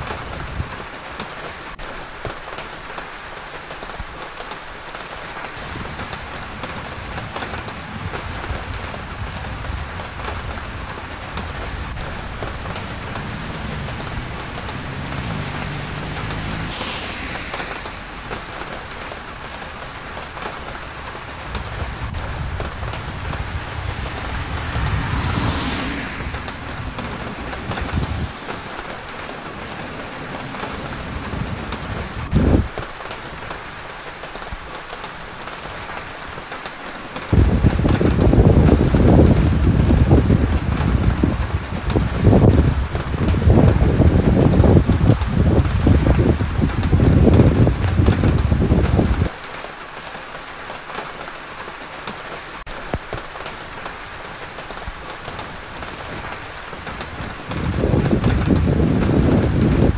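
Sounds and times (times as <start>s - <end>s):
rain on a street: 0.0s - 59.9s
vehicles passing on wet road: 0.0s - 59.9s.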